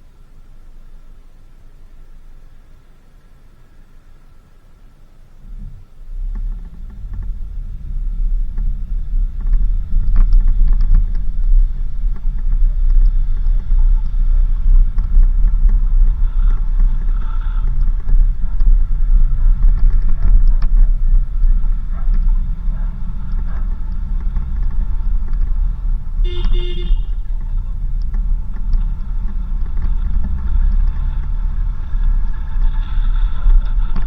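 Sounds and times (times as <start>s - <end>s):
vehicle driving on dirt road: 0.0s - 34.0s
knocks and rattles: 6.3s - 34.0s.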